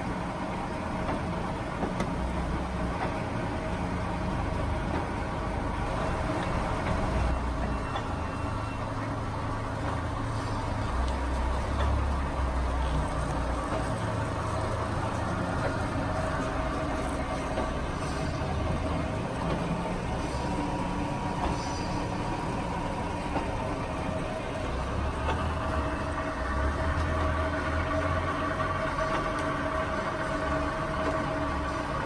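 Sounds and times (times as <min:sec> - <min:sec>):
lathe running: 0:00.0 - 0:32.0.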